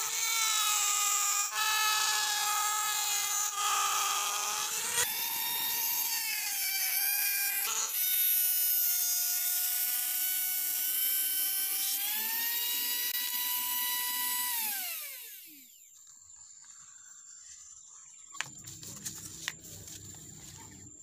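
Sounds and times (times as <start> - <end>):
rotary tool whining cutting plastic: 0.0 - 16.9.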